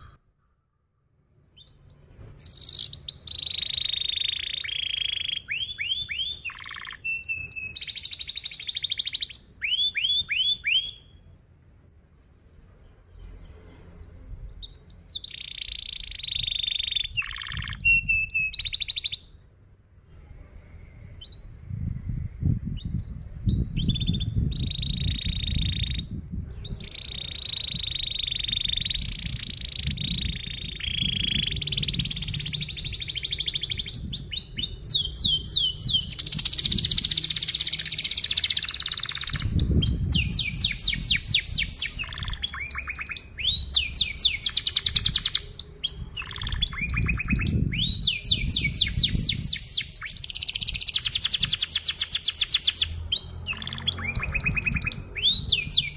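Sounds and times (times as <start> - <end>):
canary singing trills: 0.0 - 0.5, 1.5 - 11.3, 14.0 - 19.4, 22.8 - 55.9.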